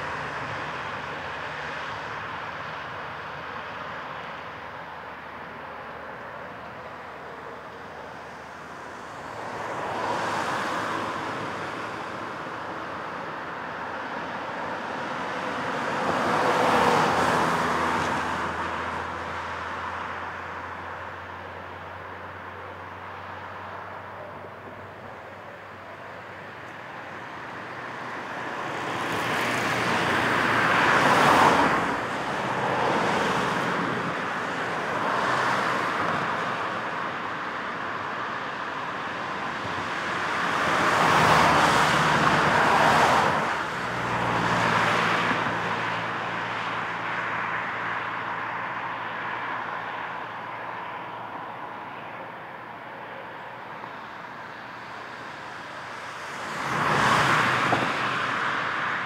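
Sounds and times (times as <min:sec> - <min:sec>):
cars passing by: 0:00.0 - 0:59.0
road traffic hum: 0:00.0 - 0:59.0.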